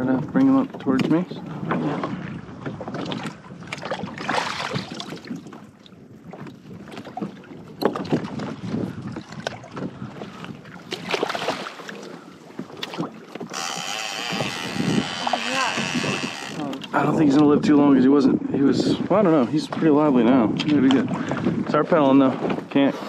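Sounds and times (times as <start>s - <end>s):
water splashing around kayaks: 0.0s - 17.8s, 18.4s - 23.0s.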